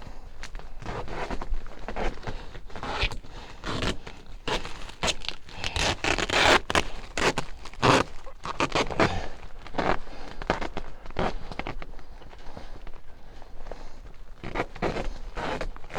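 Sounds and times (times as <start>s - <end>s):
tape crinkling and scraping: 0.4s - 15.9s.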